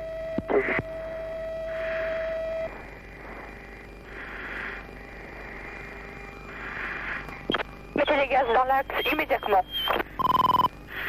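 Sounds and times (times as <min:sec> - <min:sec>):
steady tone: 0:00.0 - 0:10.6
radio hiss: 0:01.7 - 0:11.0.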